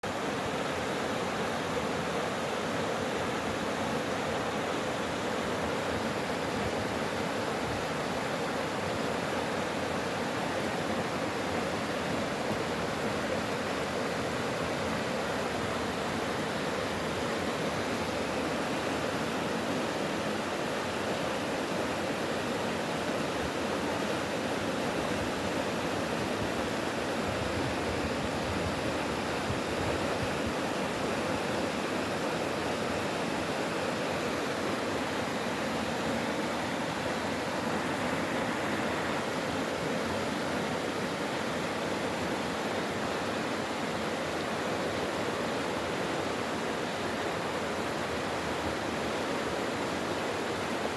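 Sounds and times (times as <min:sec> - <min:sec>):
stream water rushing over rocks: 0:00.0 - 0:50.9.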